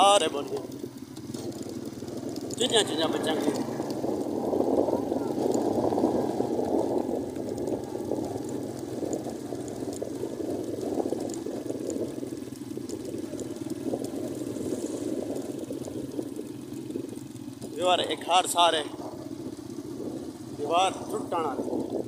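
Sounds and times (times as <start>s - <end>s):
motorcycle engine running: 0.0s - 22.0s
wind noise on microphone: 1.3s - 22.0s.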